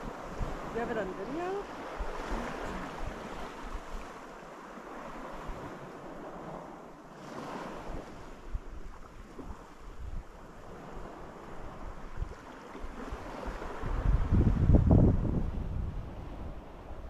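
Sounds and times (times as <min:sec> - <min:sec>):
wind buffeting microphone: 0:00.0 - 0:04.3, 0:04.9 - 0:17.0
small waves washing on sand: 0:00.0 - 0:17.0.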